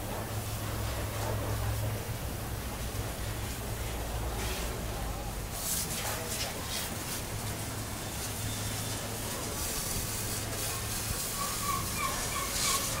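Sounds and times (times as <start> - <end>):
water jet spraying hiss: 0.1 - 13.0.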